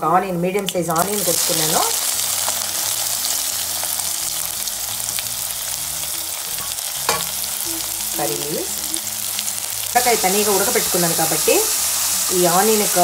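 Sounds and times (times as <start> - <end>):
onion sizzling in oil: 0.6 - 13.0.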